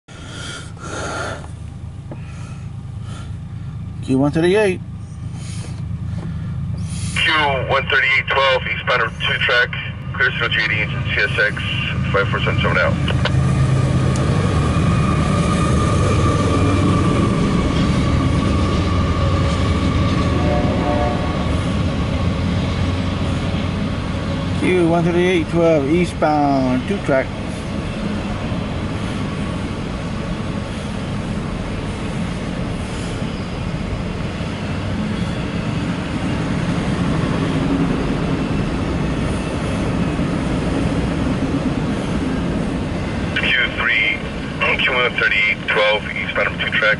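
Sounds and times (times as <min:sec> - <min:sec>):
train wheels rumbling on rail: 0:00.1 - 0:46.9.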